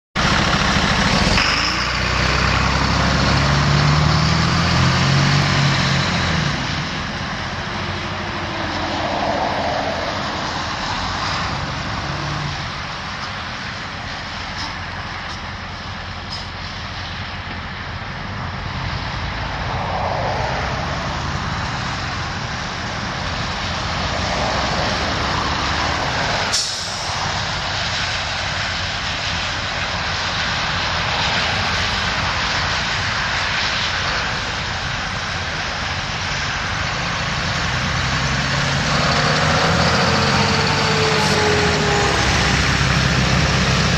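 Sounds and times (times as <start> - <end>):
diesel engine running: 0.2 - 43.9.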